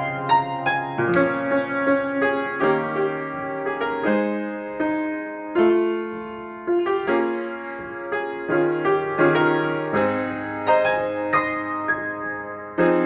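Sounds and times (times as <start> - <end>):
solo piano chords: 0.0 - 13.0.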